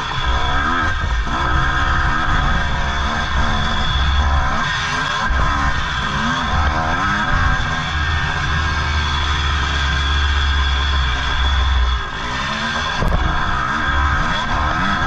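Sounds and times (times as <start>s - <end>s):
two-stroke engine revving hard: 0.0s - 15.0s.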